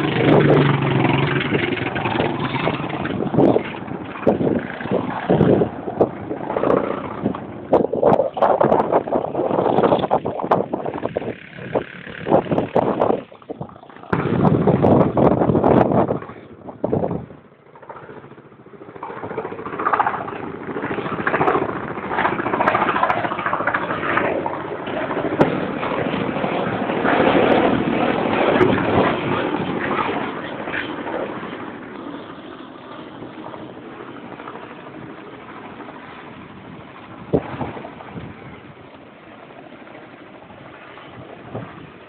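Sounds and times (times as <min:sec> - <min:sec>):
helicopter engine and rotors: 0:00.0 - 0:42.0
wind buffeting microphone: 0:00.0 - 0:42.0.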